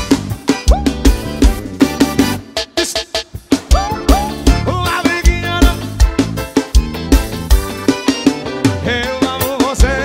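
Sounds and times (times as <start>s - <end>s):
instrumental folk dance music: 0.0s - 10.0s.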